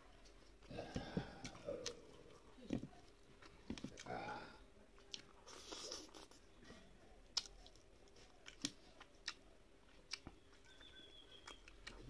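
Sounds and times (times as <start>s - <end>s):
mouth chewing food: 0.2s - 12.0s.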